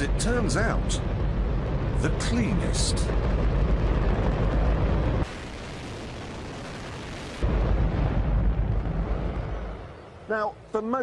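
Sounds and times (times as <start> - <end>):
rocket engine roar: 0.0 - 10.3.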